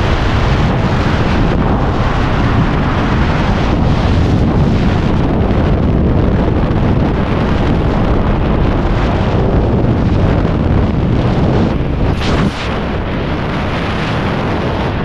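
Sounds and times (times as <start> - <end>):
wind roar on microphone: 0.0 - 15.0.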